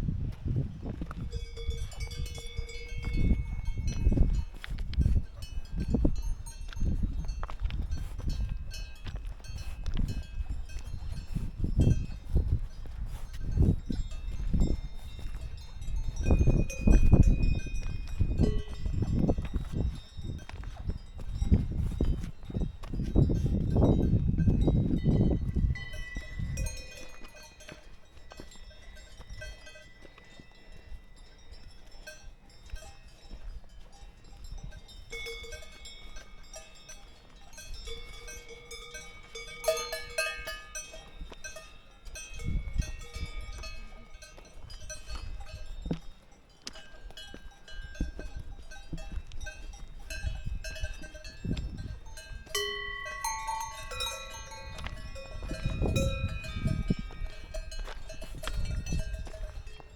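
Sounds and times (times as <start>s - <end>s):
wind rumble on microphone: 0.0s - 59.9s
cowbells ringing: 1.0s - 59.9s.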